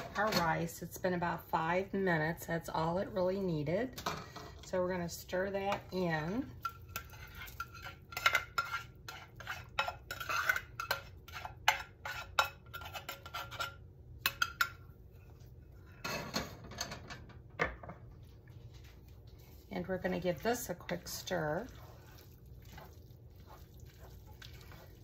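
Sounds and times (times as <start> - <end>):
spatula scraping saucepan: 0.0 - 1.7, 3.6 - 17.0, 18.2 - 25.0.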